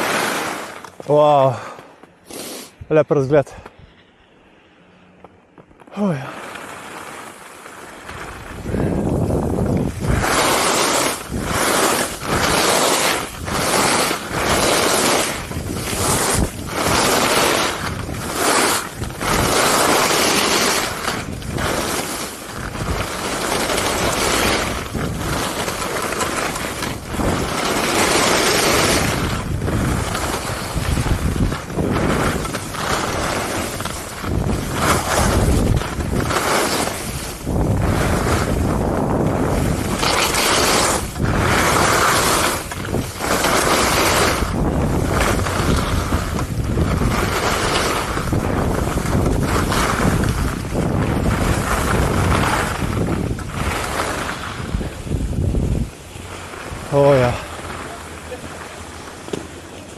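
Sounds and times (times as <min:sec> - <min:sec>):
skis scraping snow: 0:00.0 - 0:59.9
wind noise on microphone: 0:08.0 - 0:57.8.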